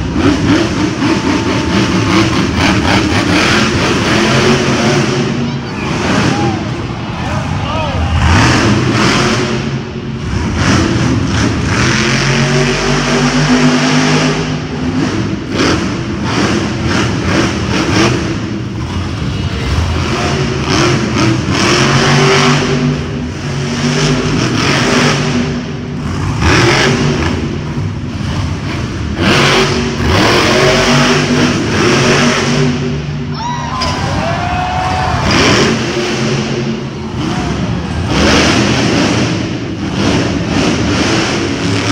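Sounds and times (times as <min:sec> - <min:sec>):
monster truck engine revving: 0:00.0 - 0:41.9.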